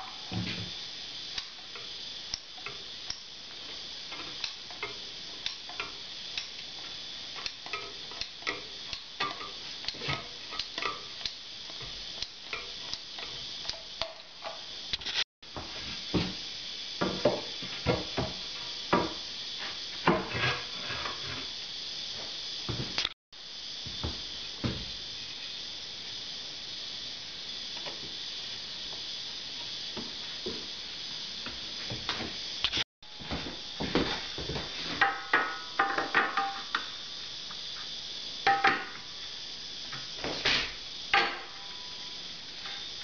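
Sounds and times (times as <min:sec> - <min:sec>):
steady hiss: 0:00.0 - 0:43.0.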